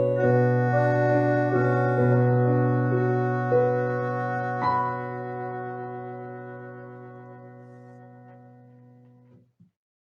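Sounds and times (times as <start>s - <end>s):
keyboard chord and notes: 0.0s - 9.3s.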